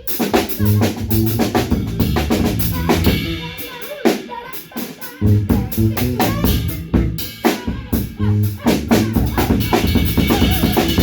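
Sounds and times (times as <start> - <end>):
live band music: 0.0 - 11.0.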